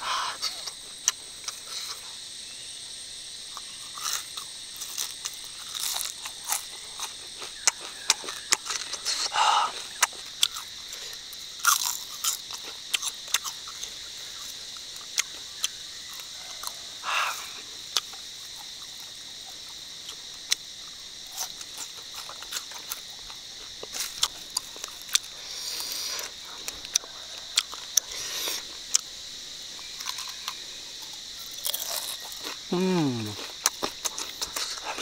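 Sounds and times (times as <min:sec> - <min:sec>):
high insect buzz: 0:00.0 - 0:35.0
crunching and chewing crispy food: 0:00.4 - 0:02.3, 0:03.4 - 0:35.0.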